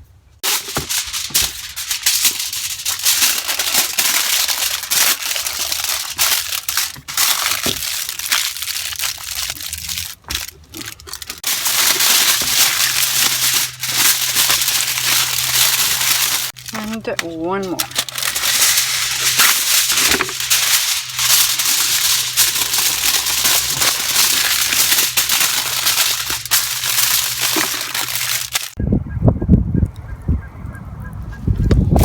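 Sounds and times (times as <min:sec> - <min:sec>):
aluminium foil crinkling: 0:00.4 - 0:28.8.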